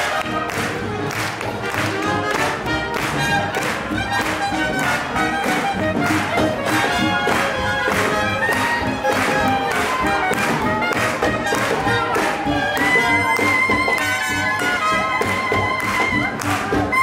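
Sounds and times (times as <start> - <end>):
swing band playing: 0.0 - 17.0.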